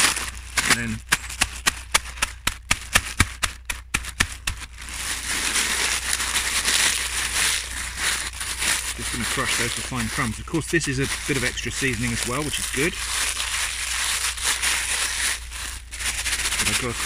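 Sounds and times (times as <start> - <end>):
crisps crushed in plastic bag: 0.0 - 17.0.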